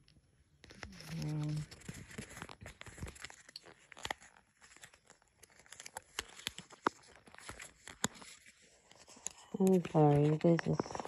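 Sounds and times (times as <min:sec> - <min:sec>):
light crinkling: 0:00.0 - 0:11.0.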